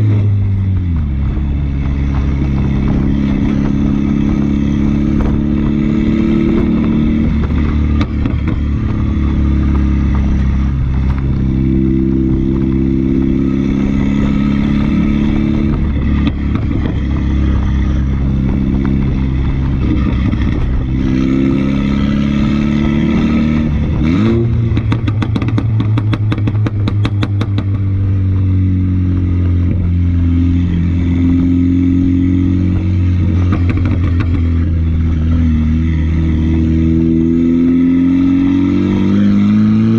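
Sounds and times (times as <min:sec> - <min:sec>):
exhaust pops and crackles: 0:00.0 - 0:31.8, 0:32.7 - 0:35.6
car engine revving: 0:00.0 - 0:39.9.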